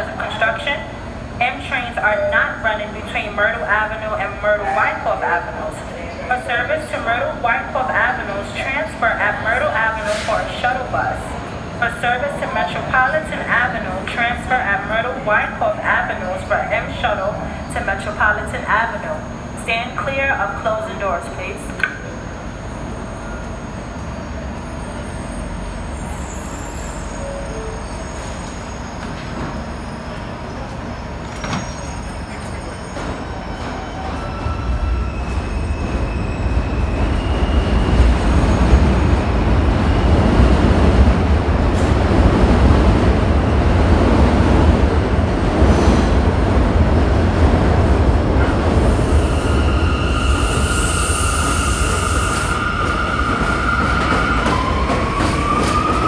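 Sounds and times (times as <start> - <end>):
subway train rumble: 0.0 - 56.0.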